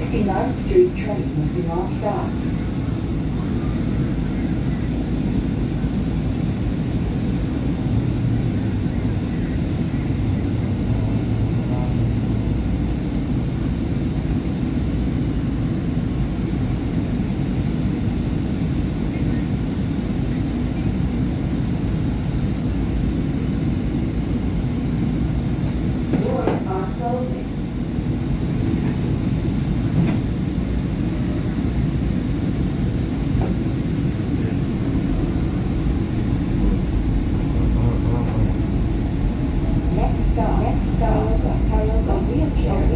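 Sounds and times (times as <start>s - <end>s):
subway car rumble and hum: 0.0s - 42.9s.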